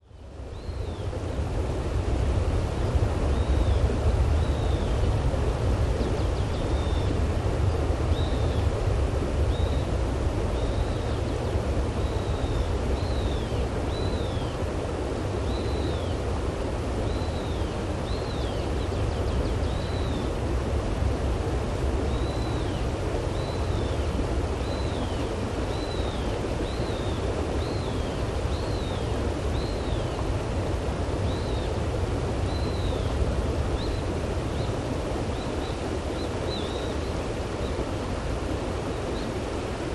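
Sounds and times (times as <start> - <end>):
river flowing: 0.1 - 39.9.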